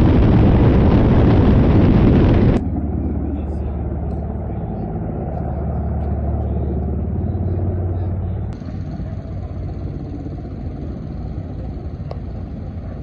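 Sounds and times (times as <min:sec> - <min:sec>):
helicopter engine and rotor rumble: 0:00.0 - 0:13.0.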